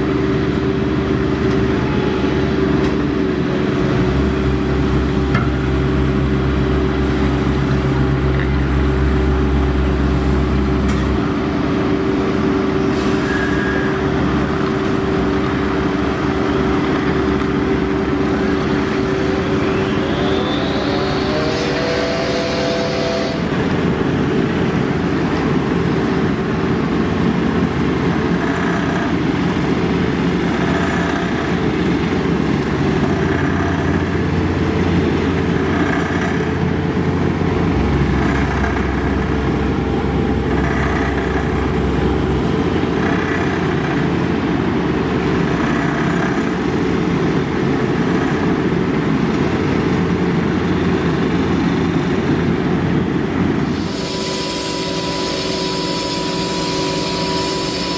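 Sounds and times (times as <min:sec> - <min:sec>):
paving machinery low rumble: 0:00.0 - 0:57.9.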